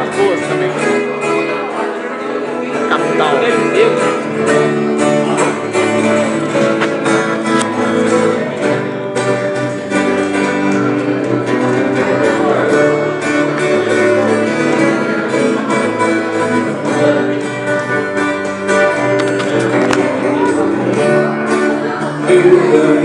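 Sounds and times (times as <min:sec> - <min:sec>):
acoustic guitars strumming: 0:00.0 - 0:23.0.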